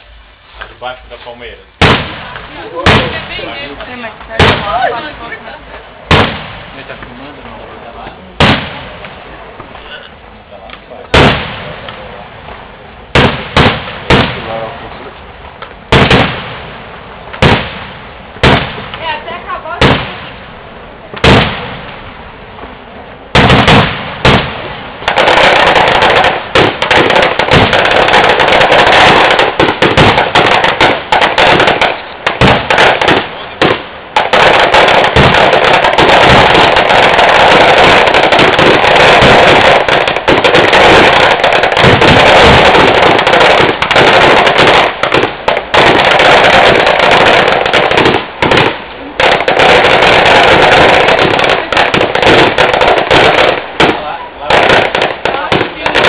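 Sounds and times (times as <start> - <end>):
firecrackers banging: 0.0 - 56.0.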